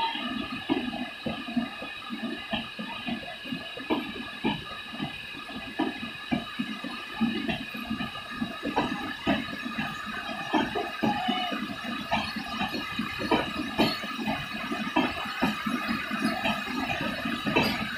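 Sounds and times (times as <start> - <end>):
train wheels clattering on rails: 0.0 - 17.9.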